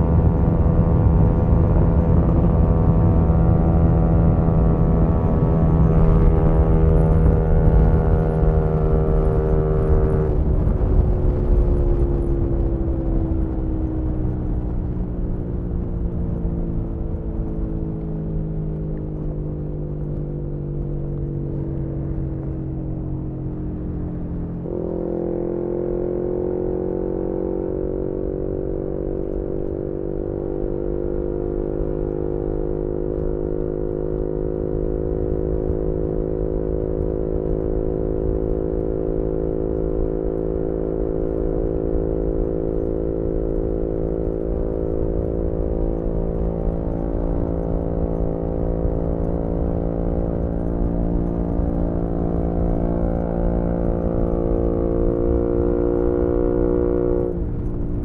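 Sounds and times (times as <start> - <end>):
motorcycle engine cruising: 0.0 - 58.0
road rumble: 0.0 - 58.0
wind noise: 0.0 - 58.0.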